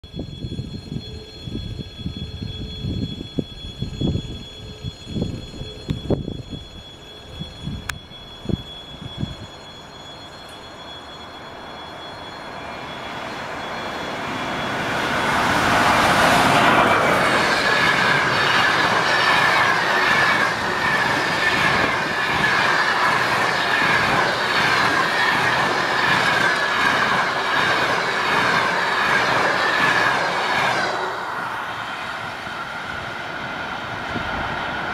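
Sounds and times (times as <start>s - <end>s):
steady high ring: 0.0s - 34.0s
electric locomotive passing: 0.1s - 34.9s.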